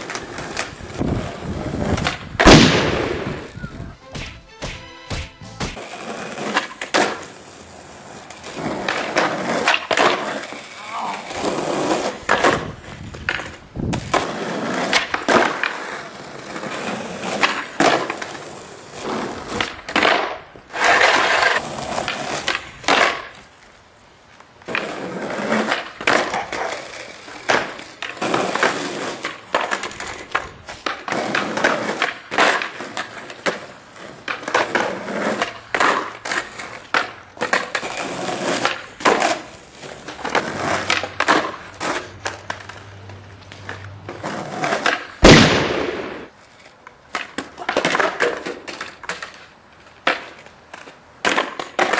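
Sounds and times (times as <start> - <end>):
skateboard wheels rolling on asphalt: 0.0 - 4.0, 5.4 - 51.9
skateboard clacking: 0.0 - 23.6, 24.3 - 51.9.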